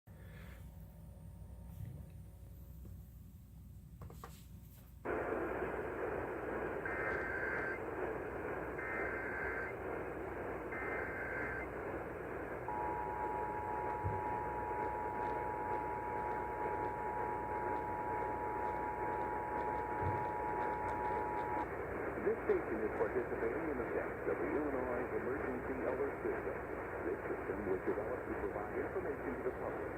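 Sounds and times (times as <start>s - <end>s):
radio hiss: 5.0s - 29.9s
short data bursts: 5.1s - 29.9s.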